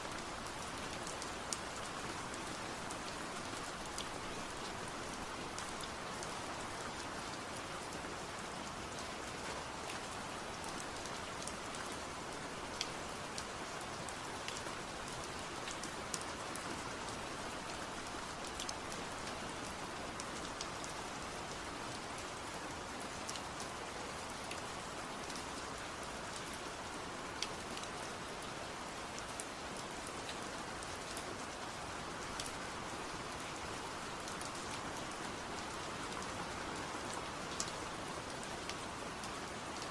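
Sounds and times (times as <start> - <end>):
steady rain hiss: 0.0 - 39.9
raindrops ticking on surface: 0.1 - 39.9.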